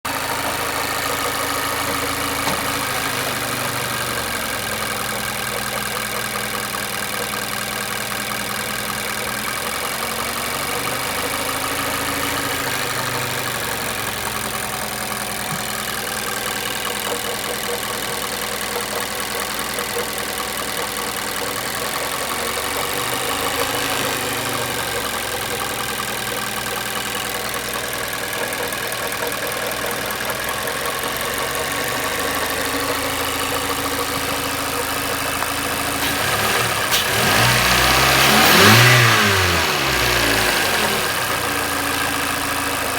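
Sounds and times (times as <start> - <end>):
car engine idling with knock: 0.1 - 42.9.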